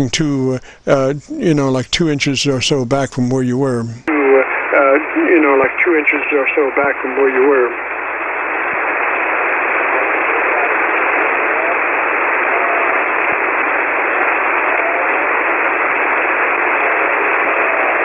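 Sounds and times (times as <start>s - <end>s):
radio band noise hiss: 0.0s - 18.0s.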